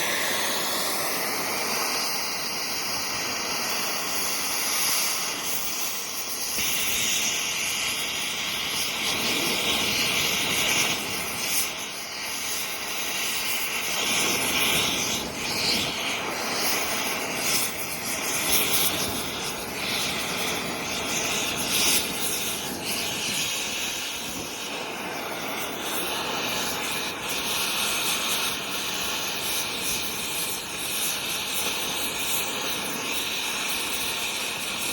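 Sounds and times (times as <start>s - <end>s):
torch flame hissing: 0.0s - 34.9s.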